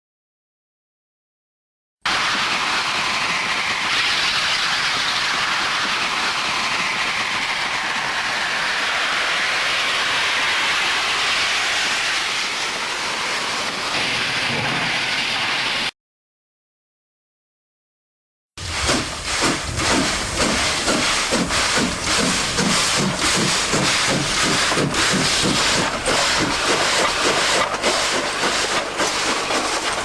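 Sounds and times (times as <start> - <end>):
steam hiss: 2.1 - 15.9, 18.6 - 30.0.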